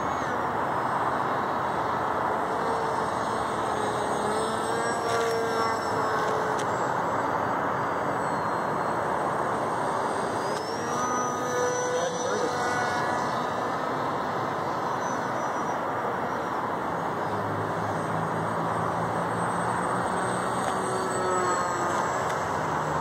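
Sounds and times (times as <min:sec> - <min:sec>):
electric model plane motor whining: 0:00.0 - 0:23.0.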